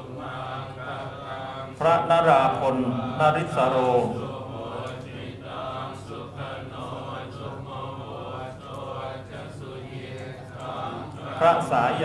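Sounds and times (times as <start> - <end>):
group chanting drone: 0.0 - 12.0
low hum in hall: 0.0 - 12.0.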